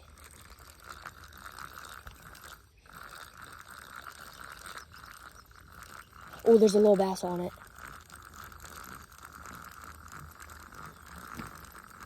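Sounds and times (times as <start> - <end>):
fishing reel clicking whir: 0.0 - 12.0.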